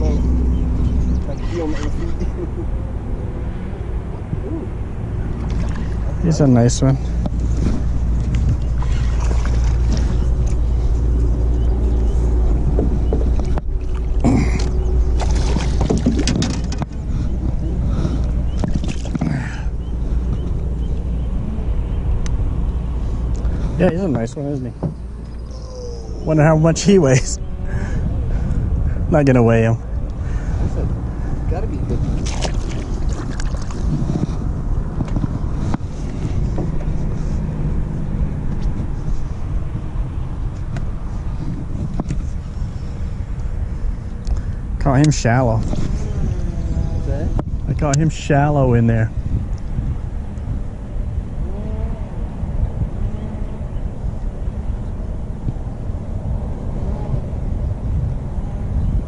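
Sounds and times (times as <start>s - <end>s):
boat motor running: 0.0s - 39.4s, 40.0s - 59.0s
wind buffeting microphone: 0.0s - 59.0s.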